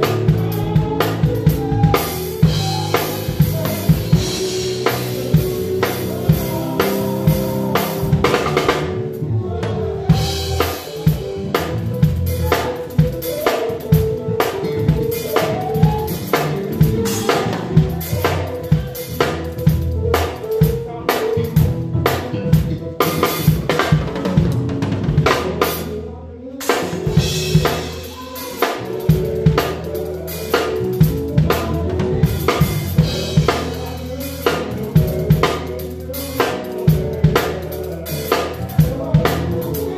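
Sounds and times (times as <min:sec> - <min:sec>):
drum kit beat: 0:00.0 - 0:39.9
live band playing gospel song: 0:00.0 - 0:39.9.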